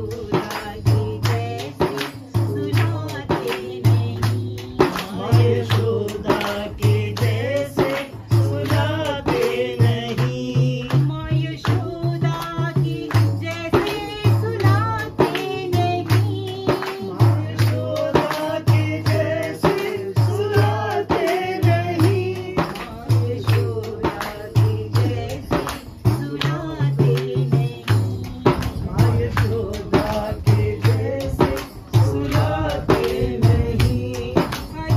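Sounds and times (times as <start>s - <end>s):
frame drum beating: 0.0s - 34.9s
hand claps: 0.0s - 34.9s
people singing together: 0.0s - 34.9s.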